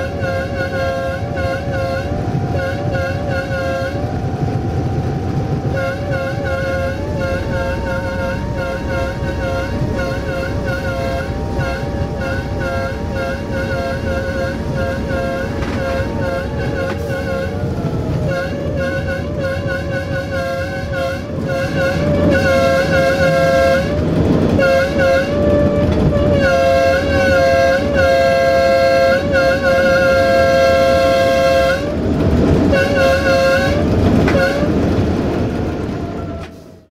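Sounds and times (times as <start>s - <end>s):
locomotive horn blasts: 0.0s - 35.1s
locomotive engine and wheel noise: 0.0s - 36.9s.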